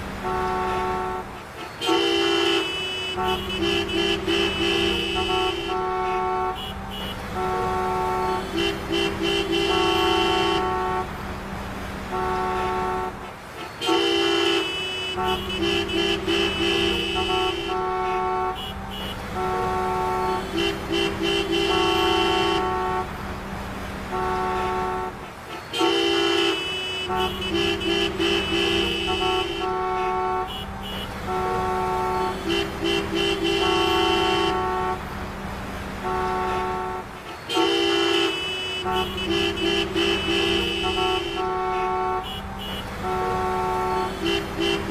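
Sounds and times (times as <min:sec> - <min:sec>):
car horns honking: 0:00.0 - 0:44.9
low hum of traffic: 0:00.0 - 0:44.9.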